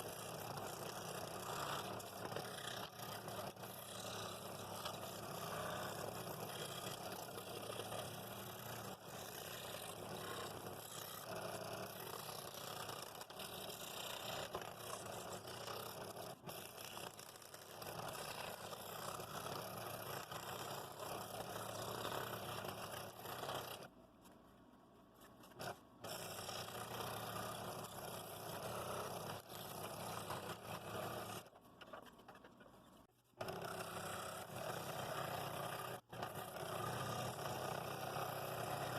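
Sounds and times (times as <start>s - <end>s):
scroll saw cutting wood: 0.0s - 23.9s, 25.2s - 32.6s, 33.4s - 38.9s.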